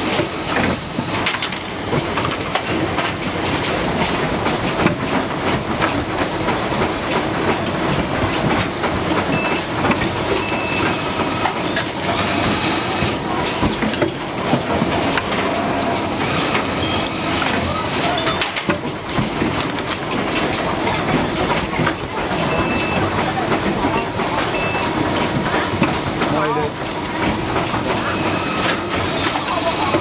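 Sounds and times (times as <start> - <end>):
factory machinery clatter: 0.0 - 30.0.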